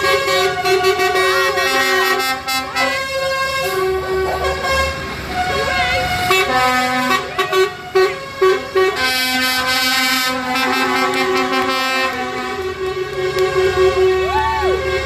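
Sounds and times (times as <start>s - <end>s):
tractor horns tooting: 0.0s - 15.0s.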